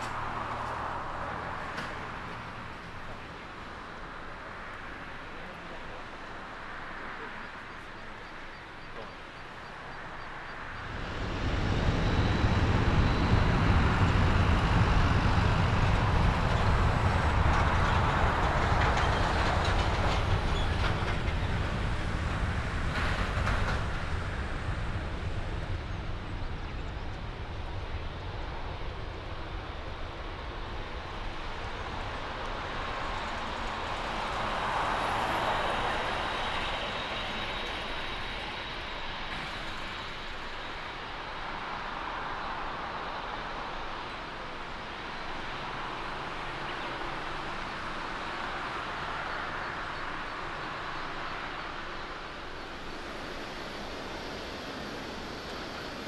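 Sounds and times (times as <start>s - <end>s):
jet airliner taking off: 10.3s - 56.0s.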